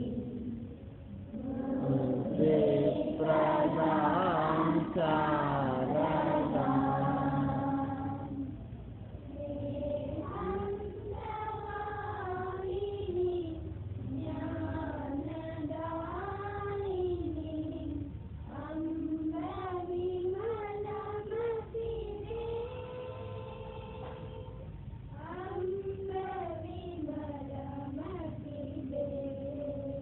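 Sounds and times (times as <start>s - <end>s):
children singing in unison: 1.3s - 8.6s, 9.3s - 24.6s, 25.2s - 30.0s.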